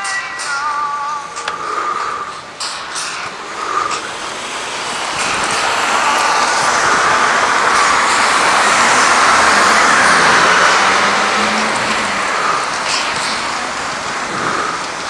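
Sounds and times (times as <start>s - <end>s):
vehicle passing: 1.1s - 15.0s.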